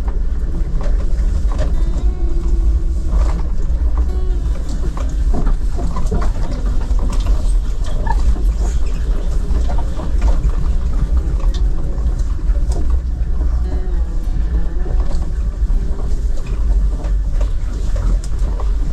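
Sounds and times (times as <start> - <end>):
car cabin low rumble: 0.0 - 18.9.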